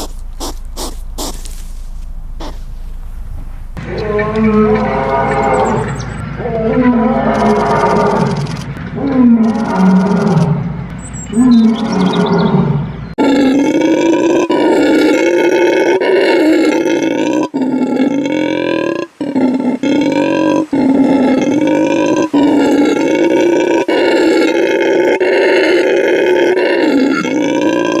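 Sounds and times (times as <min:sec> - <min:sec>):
lion roaring: 0:03.8 - 0:28.0.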